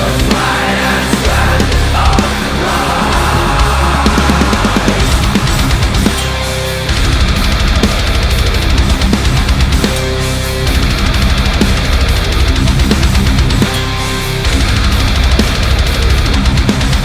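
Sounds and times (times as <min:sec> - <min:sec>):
distorted electric guitar: 0:00.0 - 0:17.0
drum kit: 0:00.0 - 0:17.0.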